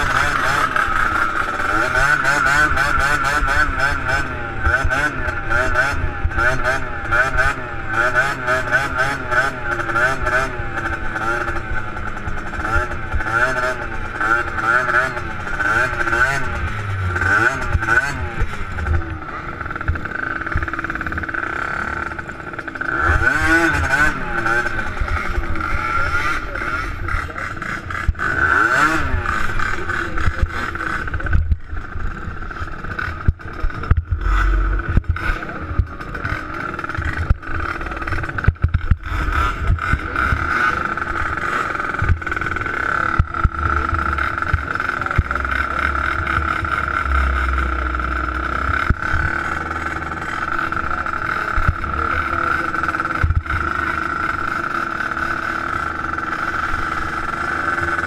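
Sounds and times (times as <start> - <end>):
small engines idling: 0.0 - 58.0.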